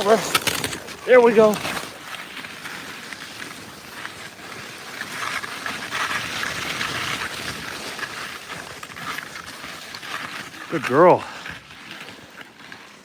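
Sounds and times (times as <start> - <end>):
crunching through snow: 0.0 - 13.0.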